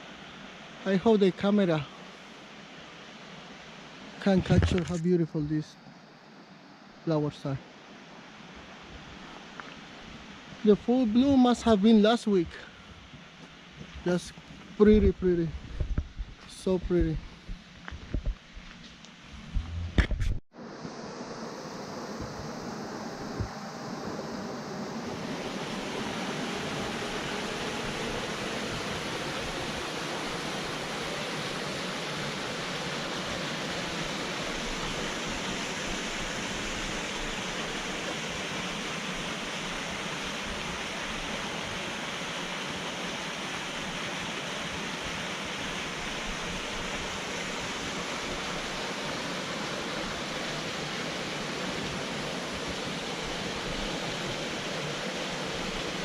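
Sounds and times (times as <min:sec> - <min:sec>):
mountain stream flowing: 0:00.0 - 0:19.5, 0:21.0 - 0:56.0.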